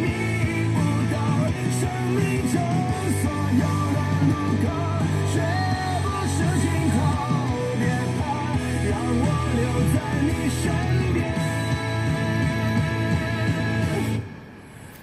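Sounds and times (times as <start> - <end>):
person singing: 0.0 - 14.3
bass: 0.0 - 14.5
guitar: 0.0 - 15.0.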